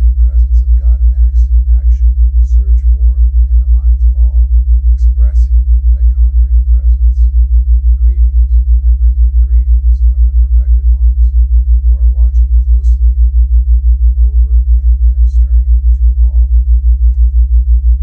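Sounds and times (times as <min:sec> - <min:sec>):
low pulsing humming tone: 0:00.0 - 0:18.0.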